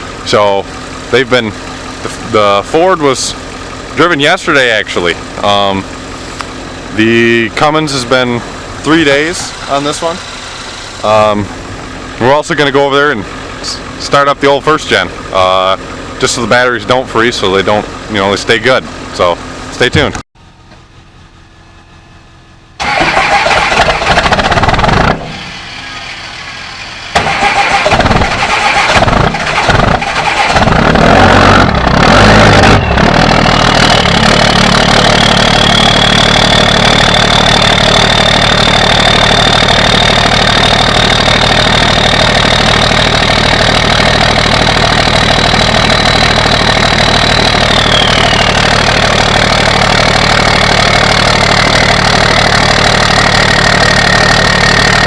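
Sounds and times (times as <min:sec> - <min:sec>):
diesel engine cranking and idling: 0:00.0 - 0:55.0
high whine: 0:00.0 - 0:55.0.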